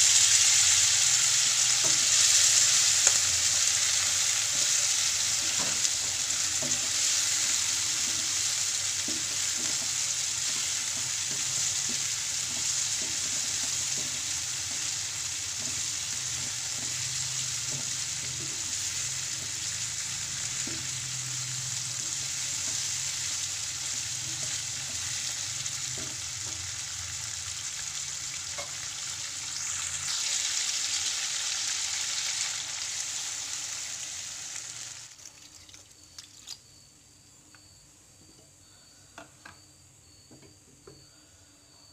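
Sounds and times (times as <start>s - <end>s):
chicken sizzling in frying pan: 0.0s - 36.6s.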